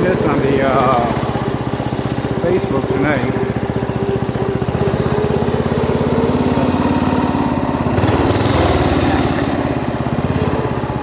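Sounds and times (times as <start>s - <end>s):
small engine exhaust pulses: 0.0s - 11.0s.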